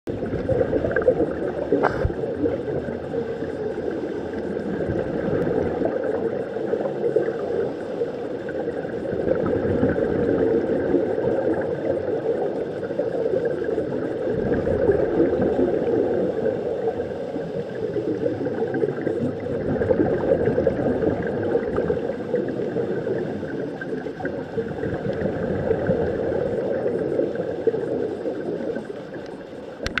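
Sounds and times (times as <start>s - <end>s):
muffled underwater rushing: 0.1s - 30.0s
regulator bubbles gurgling: 0.1s - 30.0s.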